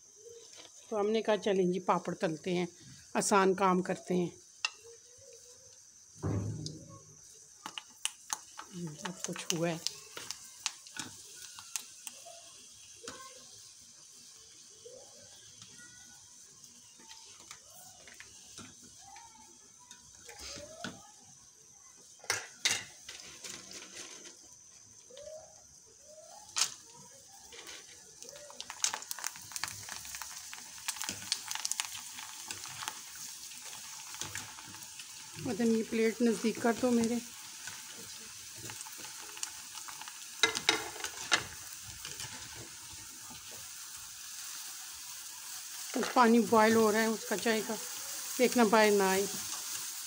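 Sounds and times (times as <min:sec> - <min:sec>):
faint hiss: 0:00.0 - 0:50.0
wafers sizzling in oil: 0:00.0 - 0:50.0.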